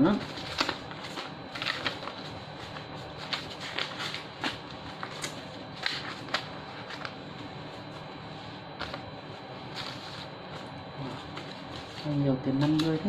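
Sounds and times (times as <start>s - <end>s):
paper rustling: 0.2s - 13.0s.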